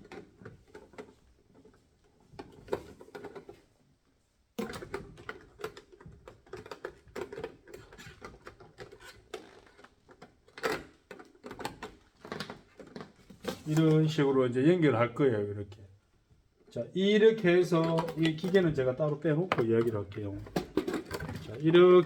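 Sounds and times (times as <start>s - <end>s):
plastic parts clicking and rustling: 0.0s - 3.7s, 4.6s - 14.2s, 17.4s - 22.0s.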